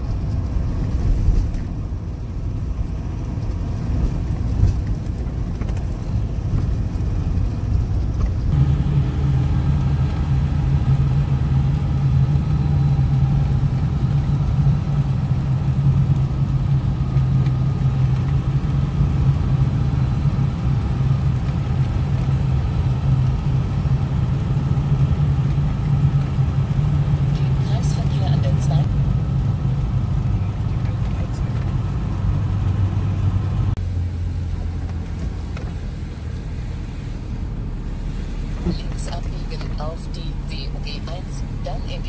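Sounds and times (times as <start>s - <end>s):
car engine drone: 0.0s - 42.0s
tyre and road noise: 0.0s - 42.0s.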